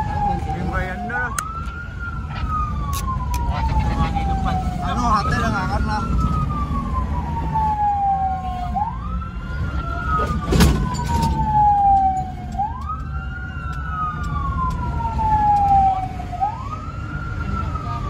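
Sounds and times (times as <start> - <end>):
car engine and road rumble: 0.0 - 18.0
steady siren tone: 0.0 - 18.0
wailing emergency siren: 0.0 - 18.0.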